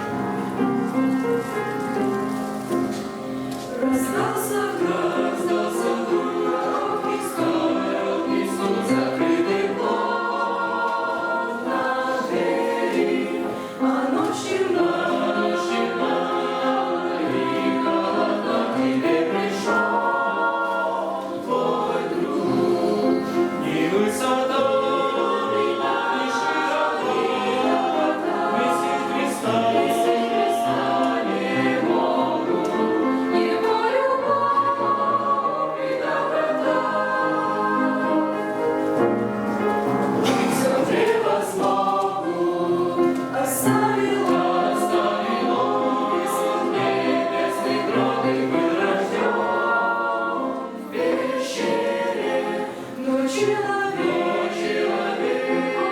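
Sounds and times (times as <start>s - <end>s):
choir singing: 0.0s - 55.9s.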